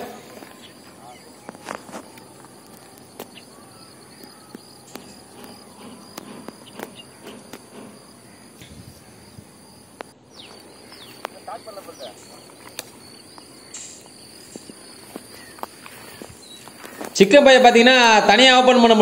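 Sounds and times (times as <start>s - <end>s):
high insect trill: 0.0s - 18.8s.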